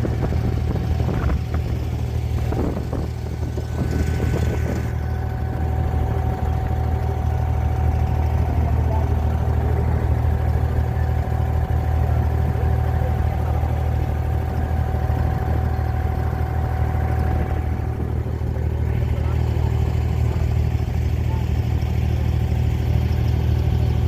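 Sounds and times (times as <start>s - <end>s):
boat diesel engine droning: 0.0s - 24.0s.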